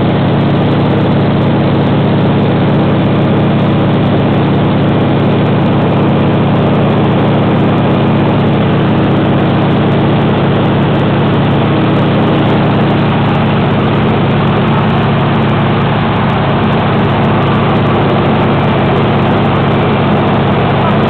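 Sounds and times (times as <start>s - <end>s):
propeller engine droning: 0.0s - 21.0s.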